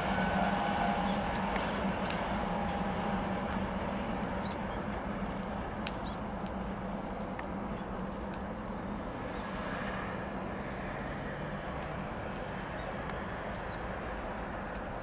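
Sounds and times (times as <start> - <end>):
distant train rumble: 0.0 - 15.0
faint train whine: 0.0 - 15.0.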